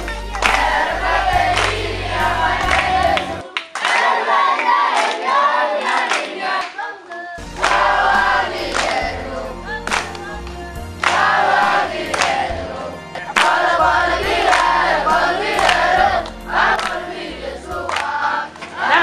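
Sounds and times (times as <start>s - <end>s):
hand claps: 0.0s - 9.2s, 9.8s - 17.2s, 17.8s - 19.0s
children singing in chorus: 0.4s - 19.0s.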